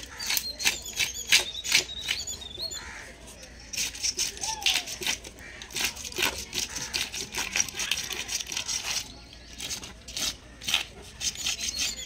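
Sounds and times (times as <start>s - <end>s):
fish scaler scraping scales: 0.0s - 12.0s.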